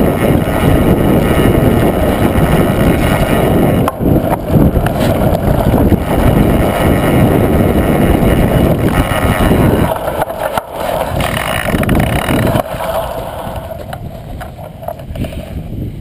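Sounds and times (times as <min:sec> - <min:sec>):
bike tyres rumbling on dirt: 0:00.0 - 0:16.0
wind on microphone: 0:00.0 - 0:16.0.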